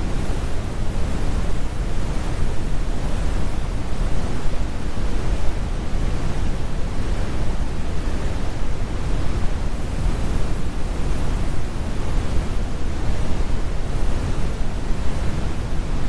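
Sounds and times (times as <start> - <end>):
brown noise: 0.0 - 16.0.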